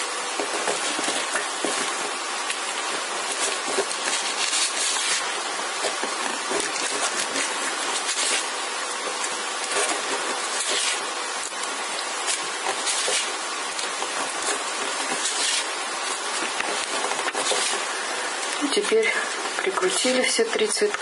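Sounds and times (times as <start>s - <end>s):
tape crackling as it is wound: 0.3s - 18.6s.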